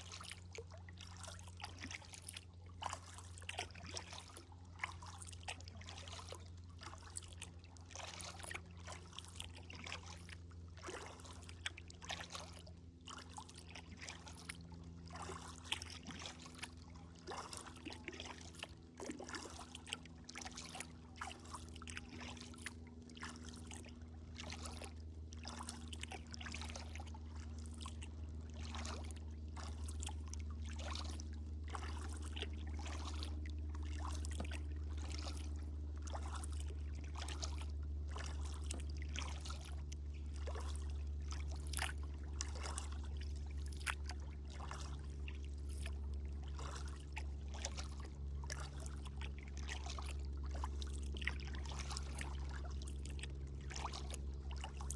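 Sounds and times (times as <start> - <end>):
paddle water splashing and dripping: 0.0 - 54.9
steady low hum: 0.0 - 54.9.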